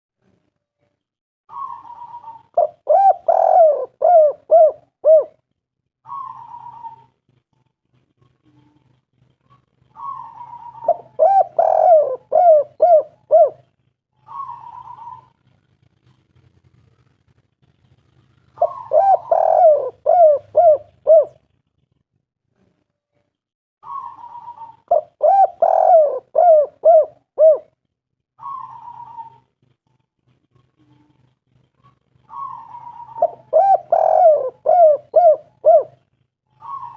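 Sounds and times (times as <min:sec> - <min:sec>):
dove cooing: 0:01.5 - 0:05.4, 0:06.0 - 0:07.4, 0:08.1 - 0:17.1, 0:18.0 - 0:21.8, 0:23.8 - 0:36.9.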